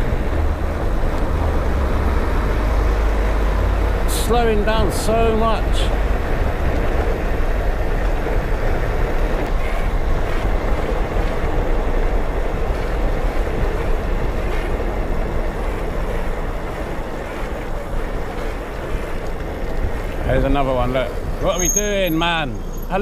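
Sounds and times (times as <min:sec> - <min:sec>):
tyres on road: 0:00.0 - 0:23.0
vehicle engine rumble: 0:00.0 - 0:23.0.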